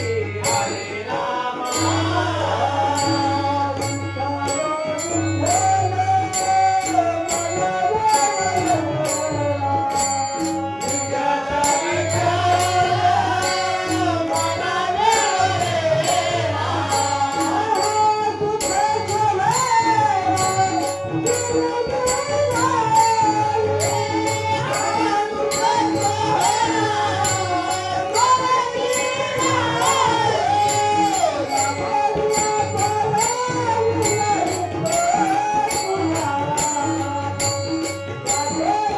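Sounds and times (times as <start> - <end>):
devotional singing: 0.0 - 38.9
tabla: 0.0 - 38.9.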